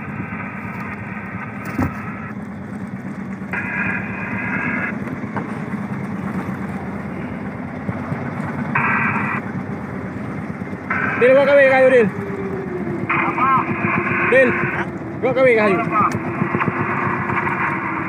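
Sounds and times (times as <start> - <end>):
boat engine running: 0.0 - 18.0
water noise: 0.0 - 18.0
wind: 0.0 - 18.0.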